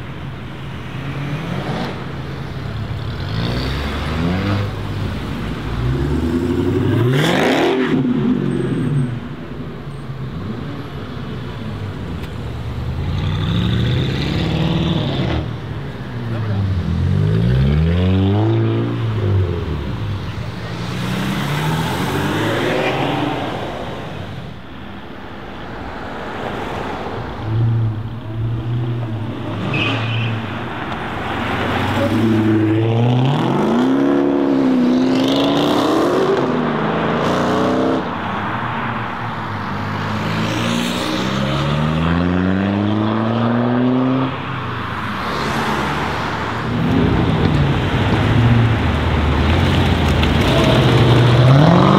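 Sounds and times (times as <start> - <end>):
cars passing: 0.0 - 51.9.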